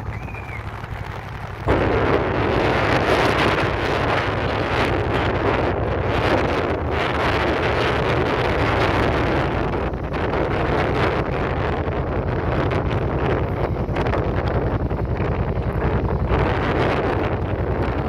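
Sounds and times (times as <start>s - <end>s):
motorcycle engine drone: 0.0s - 18.0s
wind rushing over microphone: 0.0s - 18.0s.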